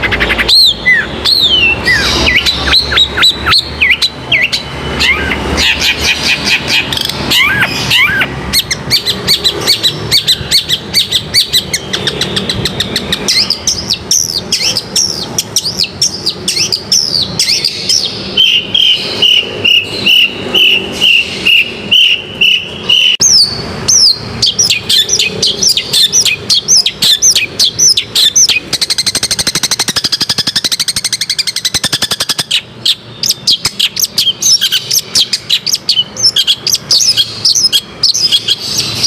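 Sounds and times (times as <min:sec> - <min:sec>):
bird singing sharp notes: 0:00.0 - 0:39.0.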